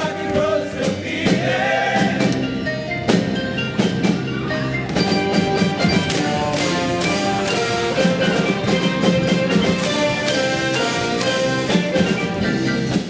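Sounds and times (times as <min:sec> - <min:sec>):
drum kit beat: 0:00.0 - 0:13.0
pitched melodic notes: 0:00.0 - 0:13.0.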